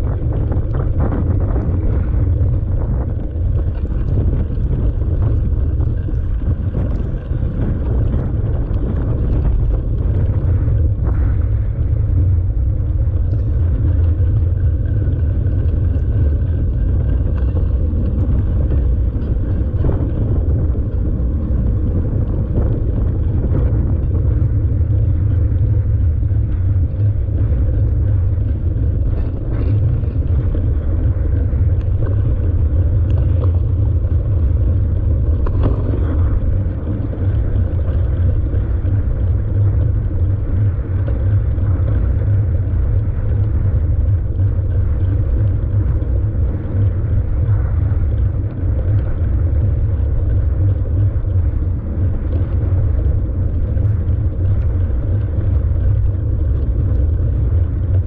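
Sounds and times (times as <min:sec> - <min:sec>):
bike riding vibration: 0:00.0 - 0:58.0
wind rumble on microphone: 0:00.0 - 0:58.0.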